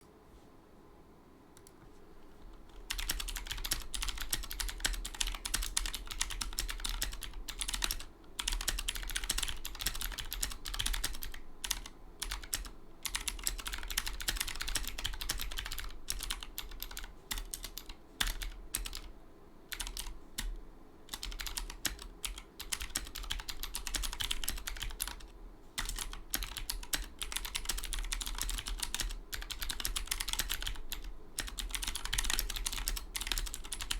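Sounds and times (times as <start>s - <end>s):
low steady hum: 0.0s - 33.9s
fast typing on mechanical keyboard: 2.6s - 19.1s, 19.7s - 33.9s.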